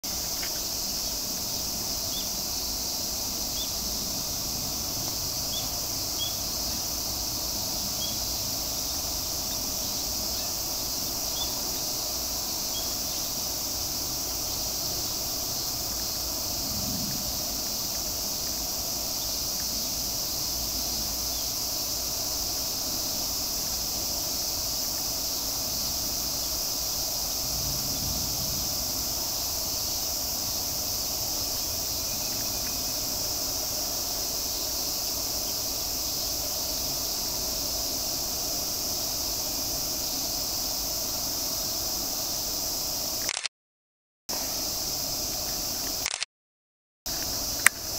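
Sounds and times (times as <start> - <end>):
insects droning: 0.0 - 43.5, 44.3 - 46.3, 47.1 - 47.9.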